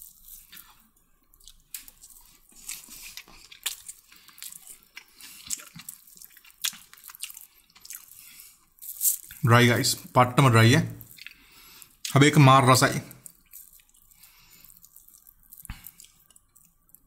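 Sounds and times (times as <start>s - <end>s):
person chewing food: 0.0s - 9.4s, 10.8s - 12.2s, 13.1s - 17.0s.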